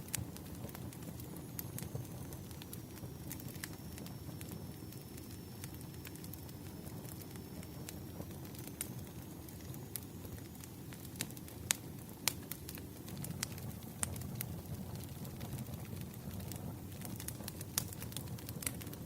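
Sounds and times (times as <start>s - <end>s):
fire flames rumbling: 0.0s - 19.0s
logs crackling and popping: 0.0s - 19.0s.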